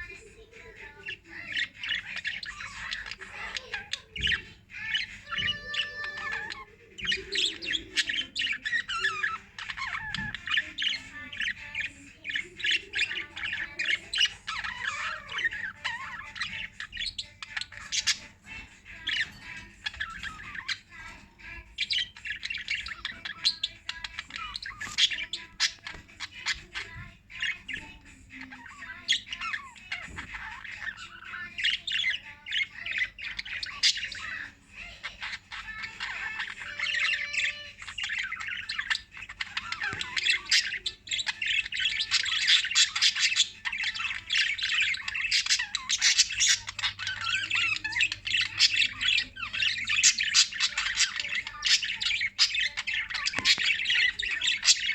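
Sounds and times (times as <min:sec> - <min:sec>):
parrots chirping and squawking: 0:00.0 - 0:54.9.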